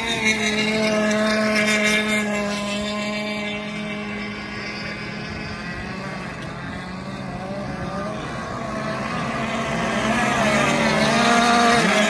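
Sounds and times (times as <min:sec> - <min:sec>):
racing boat engines whining: 0:00.0 - 0:12.0.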